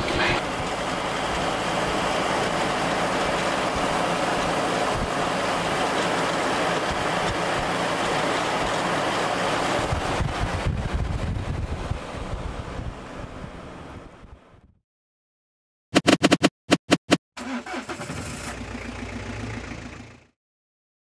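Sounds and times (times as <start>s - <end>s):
engine and road noise drone: 0.0s - 14.7s, 16.0s - 20.4s.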